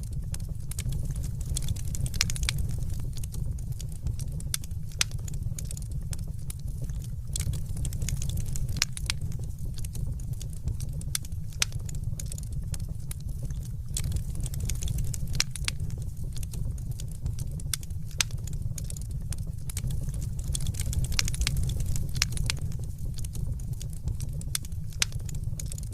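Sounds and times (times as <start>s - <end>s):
fireplace fire crackling: 0.0s - 25.9s.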